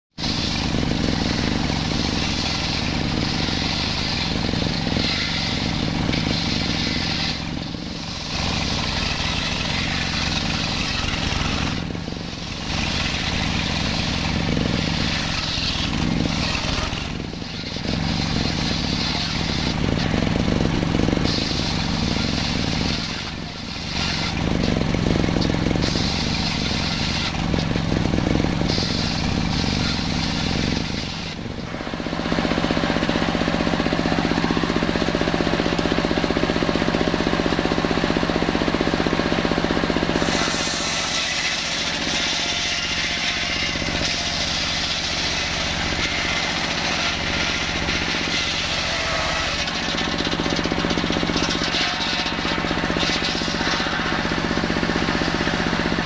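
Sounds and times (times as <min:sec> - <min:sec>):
table saw cutting log: 0:00.1 - 0:56.0.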